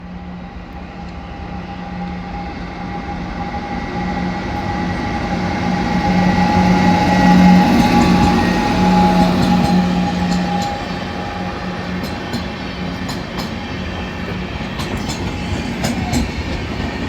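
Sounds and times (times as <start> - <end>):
train approaching with low hum: 0.0 - 17.0.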